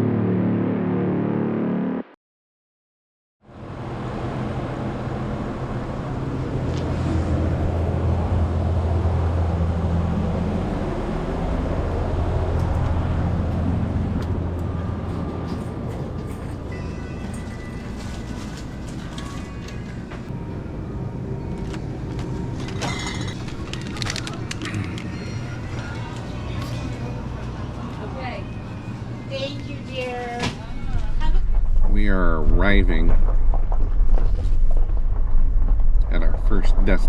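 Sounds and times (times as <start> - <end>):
vehicle engine and road noise: 3.5 - 37.0.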